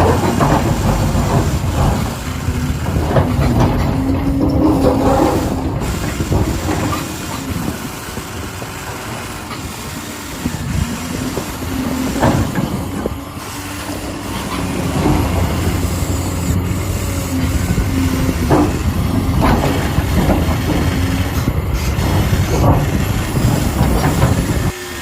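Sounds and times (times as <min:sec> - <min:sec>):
electric motors and gears humming: 0:00.0 - 0:25.0.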